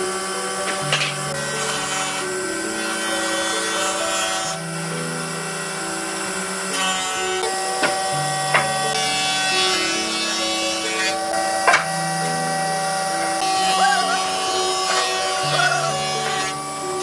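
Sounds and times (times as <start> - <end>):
sustained chord music: 0.0 - 17.0.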